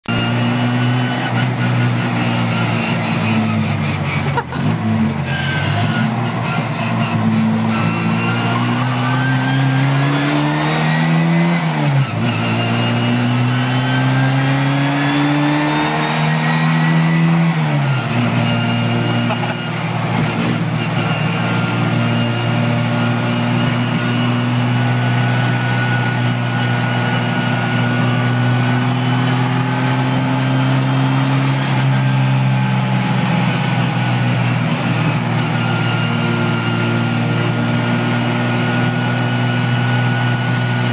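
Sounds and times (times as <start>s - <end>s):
car engine pulling through gears: 0.0s - 40.9s.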